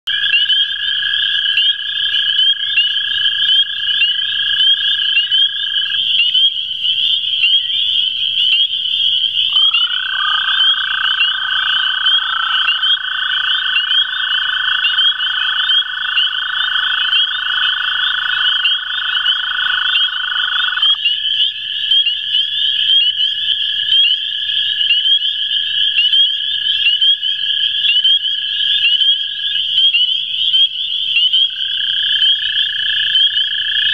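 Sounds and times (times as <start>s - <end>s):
chorus of frog peeps: 0.1s - 33.9s
toads trilling: 0.1s - 33.9s.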